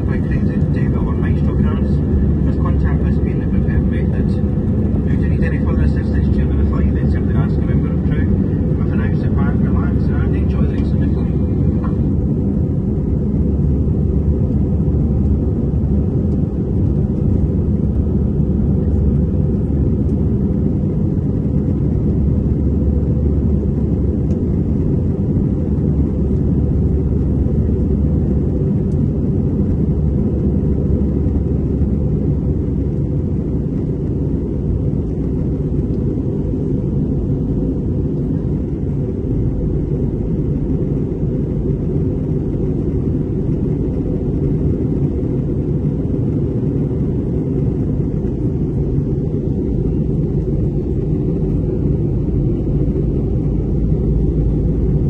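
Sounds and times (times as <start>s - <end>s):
jet engine rumble in cabin: 0.0s - 55.0s.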